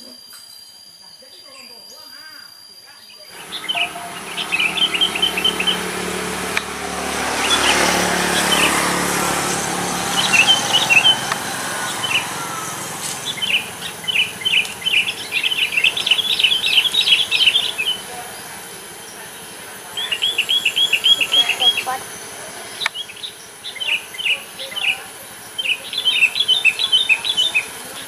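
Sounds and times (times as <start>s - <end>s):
bulbuls chirping: 3.0s - 28.0s
broad rushing noise: 3.3s - 28.0s.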